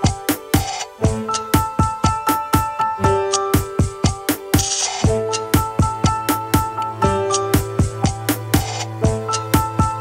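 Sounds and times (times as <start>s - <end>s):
held keyboard chords: 0.0s - 10.0s
steady beat: 0.0s - 10.0s.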